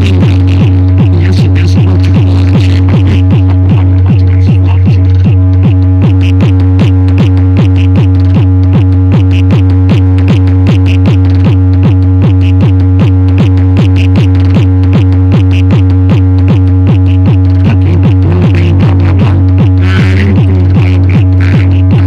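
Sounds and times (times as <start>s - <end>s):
loud electronic dance music: 0.0s - 22.0s.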